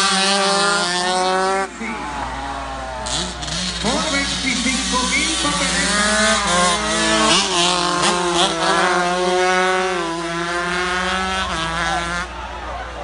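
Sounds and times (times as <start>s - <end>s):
racing motorcycles at high revs: 0.0s - 12.4s.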